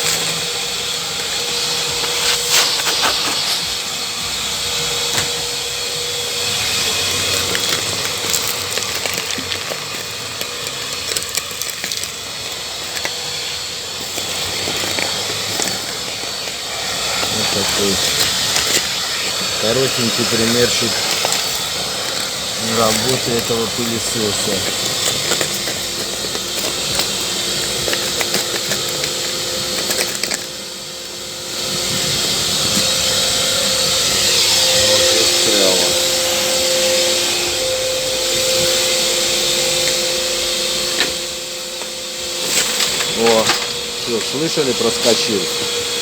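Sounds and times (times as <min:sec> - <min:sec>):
grit rattling through hose: 0:00.0 - 0:37.1, 0:38.2 - 0:46.0
vacuum cleaner running: 0:00.0 - 0:46.0.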